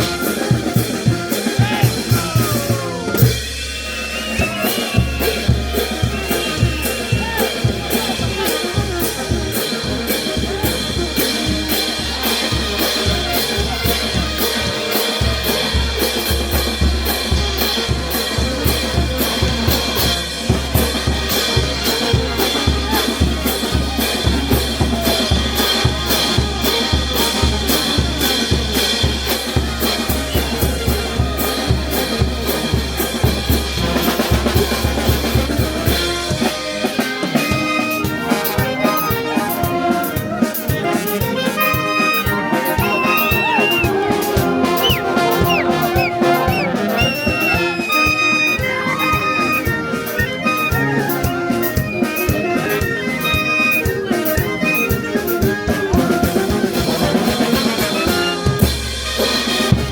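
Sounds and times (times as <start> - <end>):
bass drum and snare beat: 0.0 - 59.9
brass band playing: 0.0 - 59.9.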